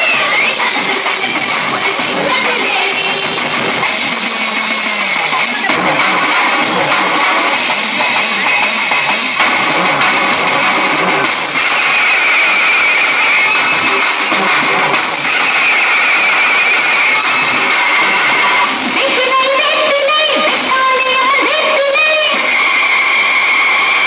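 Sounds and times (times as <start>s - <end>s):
loud dance music: 0.0s - 24.0s.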